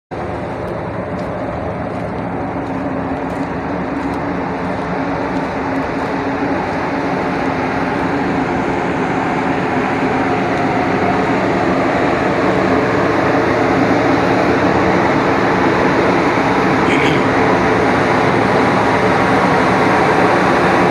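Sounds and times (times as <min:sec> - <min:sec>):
ship machinery drone: 0:00.1 - 0:20.9.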